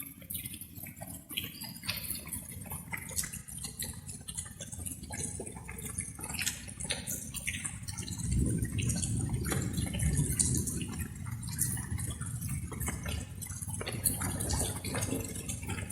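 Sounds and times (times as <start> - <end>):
light rain pattering: 0.0 - 15.9.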